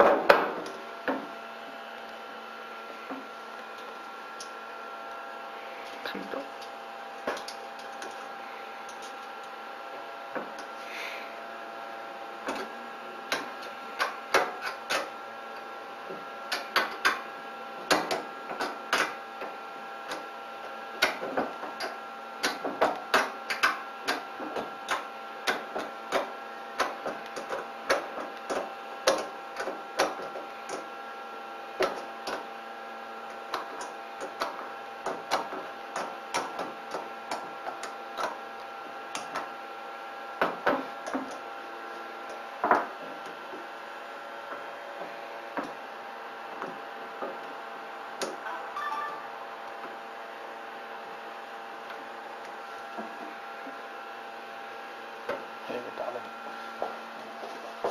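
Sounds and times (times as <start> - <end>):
steady hum: 0.0 - 57.9.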